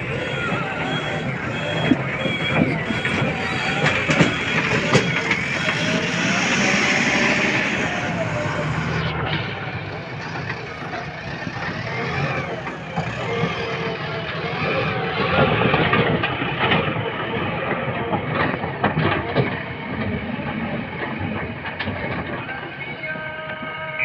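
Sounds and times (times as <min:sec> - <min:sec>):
diesel engine running: 0:00.0 - 0:23.8.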